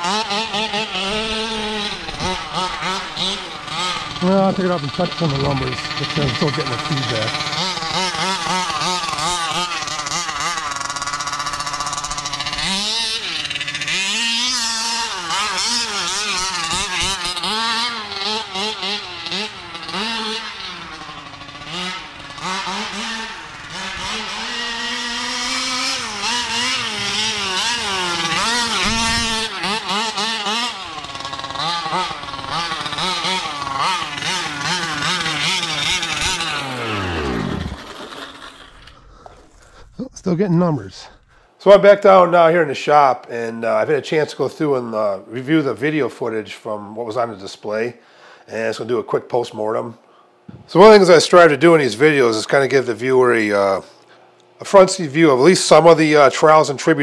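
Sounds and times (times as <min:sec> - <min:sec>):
rc buggy engine revving: 0:00.0 - 0:49.9, 0:50.5 - 0:57.0.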